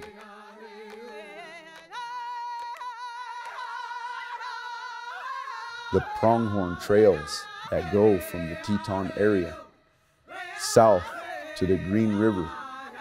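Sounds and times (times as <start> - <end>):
wordless high voice singing: 0.0 - 13.0.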